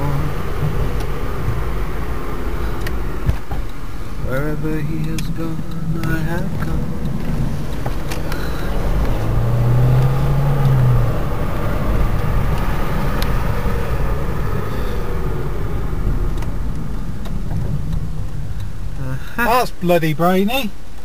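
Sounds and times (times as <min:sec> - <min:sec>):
car engine hum: 0:00.0 - 0:21.0
road rumble: 0:00.0 - 0:21.0.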